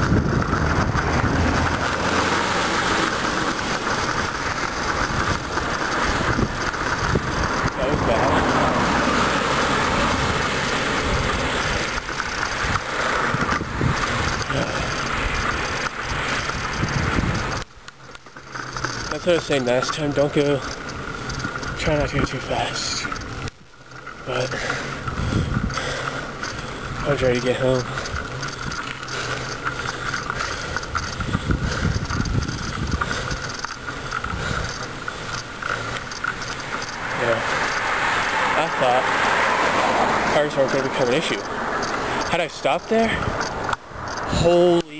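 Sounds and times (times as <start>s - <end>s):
wind buffeting microphone: 0.0s - 17.8s, 24.9s - 44.5s
bicycle freewheel clicking: 0.0s - 44.9s
road and tyre noise: 0.0s - 44.9s.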